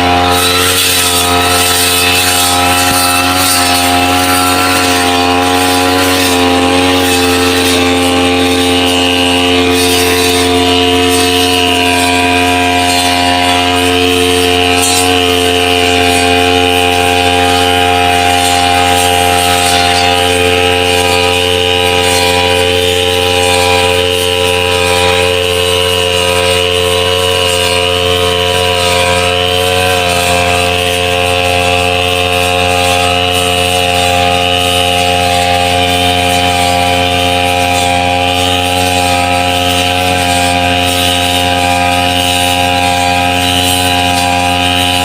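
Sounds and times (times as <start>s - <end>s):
brush cutter engine running: 0.0s - 45.0s.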